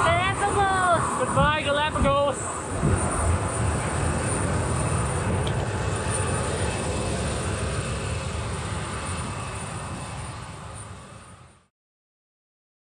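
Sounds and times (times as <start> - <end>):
low outdoor rushing noise: 0.0 - 11.7.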